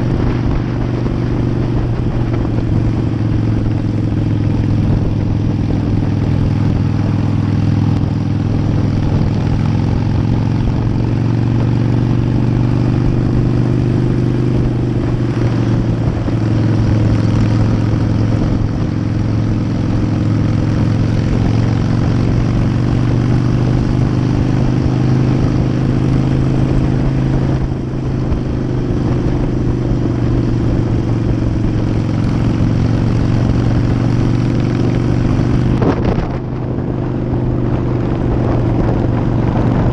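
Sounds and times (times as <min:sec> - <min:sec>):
motorcycle engine cruising: 0:00.0 - 0:39.9
road noise: 0:00.0 - 0:39.9.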